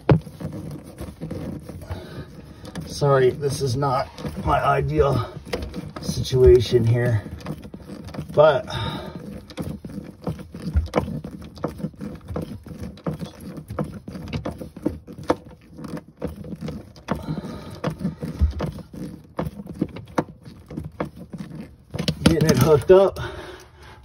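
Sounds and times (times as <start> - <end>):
clicks scrapes and knocks: 0.0 - 23.2.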